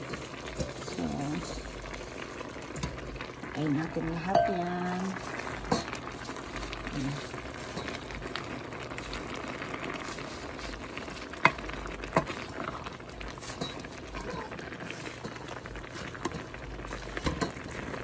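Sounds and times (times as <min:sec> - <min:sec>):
broth bubbling: 0:00.0 - 0:18.0.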